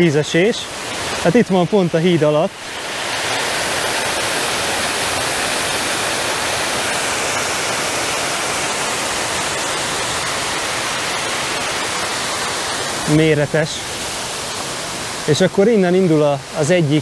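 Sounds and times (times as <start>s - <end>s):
waterfall rumbling: 0.0s - 17.0s.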